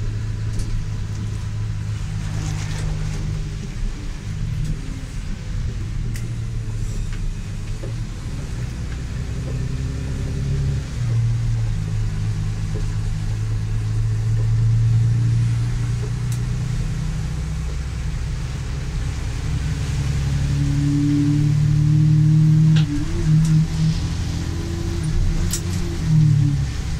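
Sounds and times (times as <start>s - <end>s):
vehicle engine droning: 0.0s - 26.9s.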